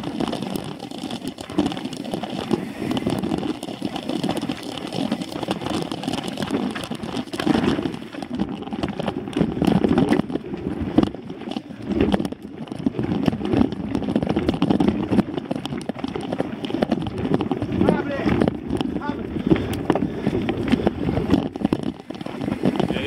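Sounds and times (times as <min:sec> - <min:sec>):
bike rattling and knocking: 0:00.0 - 0:23.0
rumbling wind noise: 0:00.0 - 0:23.0.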